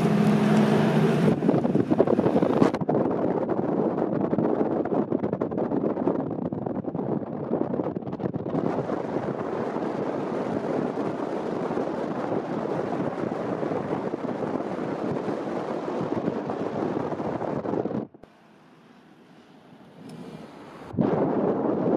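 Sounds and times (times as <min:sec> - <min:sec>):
wind buffeting microphone: 0:00.0 - 0:18.3, 0:20.1 - 0:21.9.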